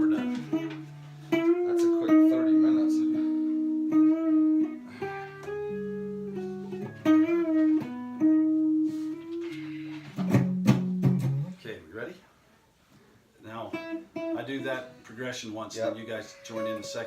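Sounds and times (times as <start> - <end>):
guitar playing: 0.0 - 11.6, 13.5 - 17.0.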